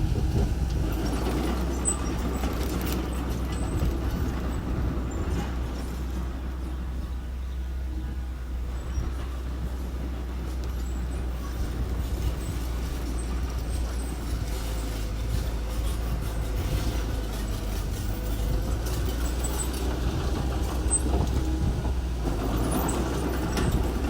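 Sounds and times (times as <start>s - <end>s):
clanking and rattling: 0.0s - 24.0s
diesel engine running: 0.0s - 24.0s.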